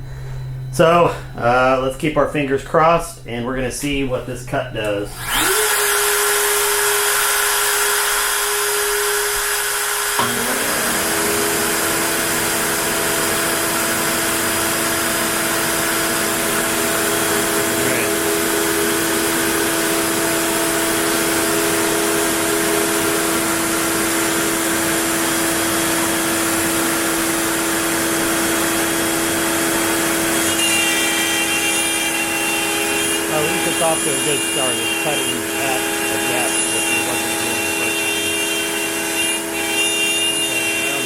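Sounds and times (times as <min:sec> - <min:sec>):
router bit cutting wood: 0:05.1 - 0:41.0
router motor whining: 0:05.1 - 0:41.0.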